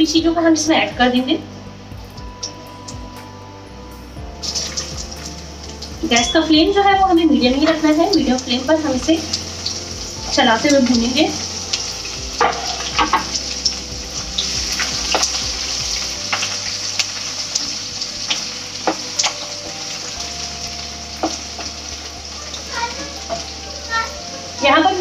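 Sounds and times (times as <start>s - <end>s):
food sizzling in hot oil: 4.0s - 25.0s.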